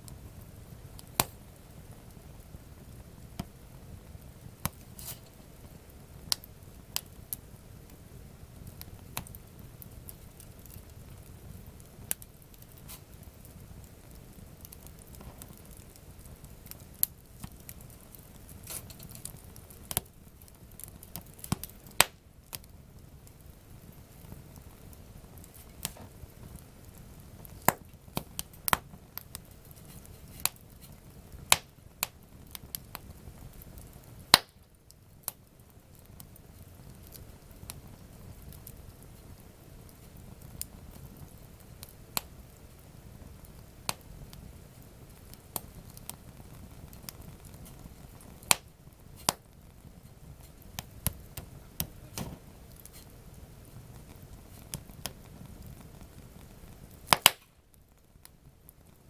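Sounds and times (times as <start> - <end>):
campfire crackling and popping: 0.0 - 59.0
low steady hiss: 0.0 - 59.0.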